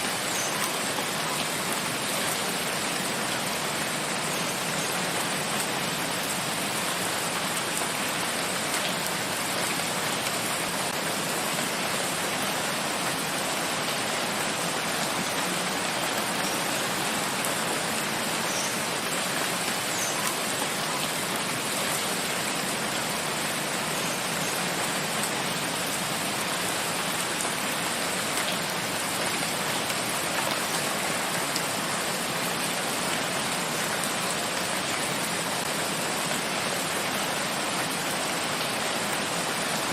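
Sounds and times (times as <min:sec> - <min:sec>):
heavy rain in forest: 0:00.0 - 0:39.9.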